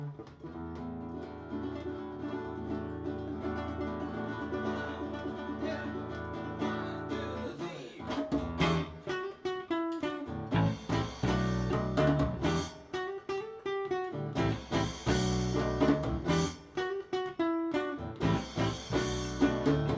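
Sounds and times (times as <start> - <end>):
live acoustic band music: 0.0 - 13.4, 14.1 - 19.9
picked guitar notes: 0.0 - 19.9.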